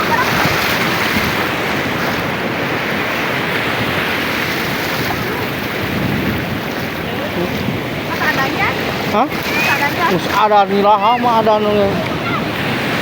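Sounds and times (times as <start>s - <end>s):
sea surf washing onto beach: 0.0s - 13.0s
wind on microphone: 0.0s - 13.0s.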